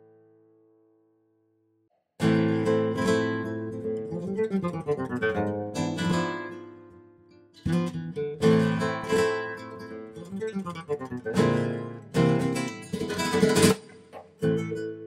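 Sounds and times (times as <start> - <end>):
acoustic guitar strumming: 2.2 - 15.0.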